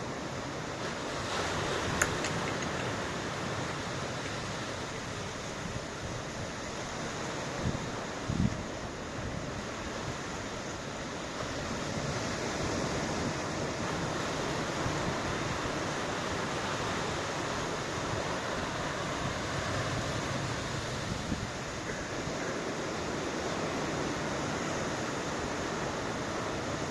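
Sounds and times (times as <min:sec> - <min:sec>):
ocean waves washing on shore: 0:00.0 - 0:26.9
wind: 0:00.0 - 0:26.9.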